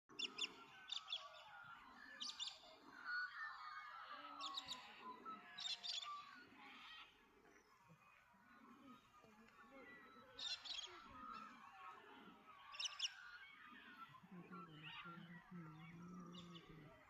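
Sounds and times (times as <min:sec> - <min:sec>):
warbling birdsong: 0:00.0 - 0:17.0.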